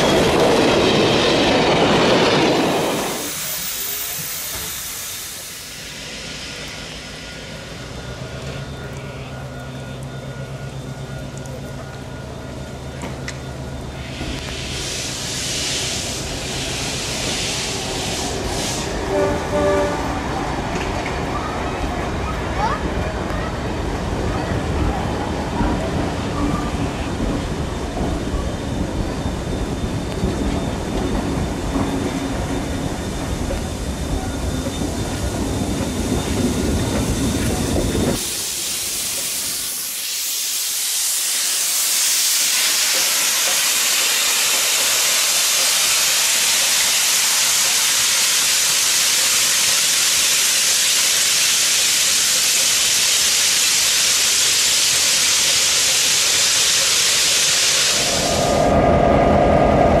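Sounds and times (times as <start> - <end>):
steam locomotive blowing off steam: 0.0 - 21.0, 25.3 - 60.0
diesel locomotive humming: 0.0 - 60.0
low rumble of standing train: 0.0 - 60.0.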